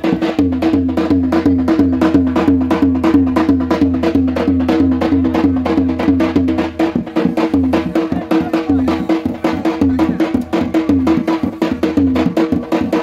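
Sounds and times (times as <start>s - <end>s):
loud music with fast beat: 0.0s - 13.0s.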